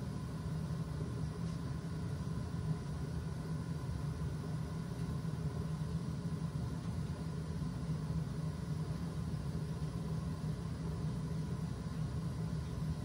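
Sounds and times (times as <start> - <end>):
boiler burner rumbling: 0.0 - 13.0.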